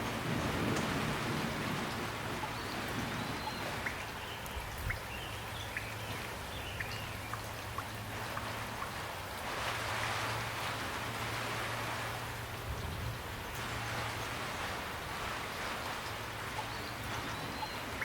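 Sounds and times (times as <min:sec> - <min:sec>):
gentle rain falling: 0:00.0 - 0:18.0.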